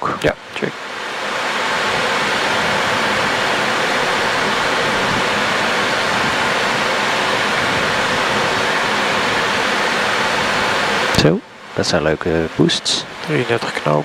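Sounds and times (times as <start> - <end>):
air rushing past cockpit: 0.0 - 14.0.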